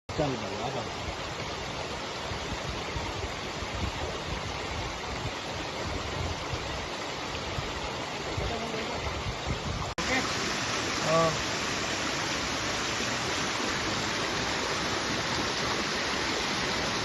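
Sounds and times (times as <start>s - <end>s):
water rushing: 0.1s - 17.0s.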